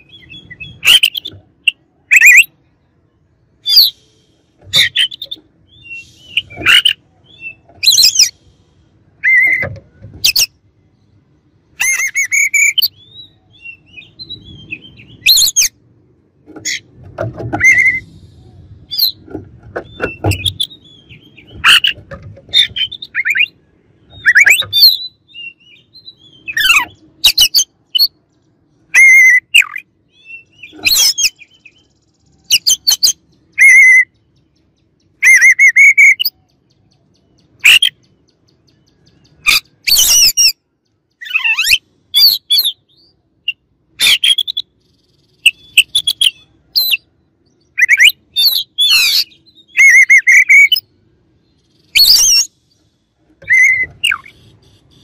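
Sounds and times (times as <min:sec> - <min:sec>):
bird singing varied phrases: 0:00.0 - 0:55.0.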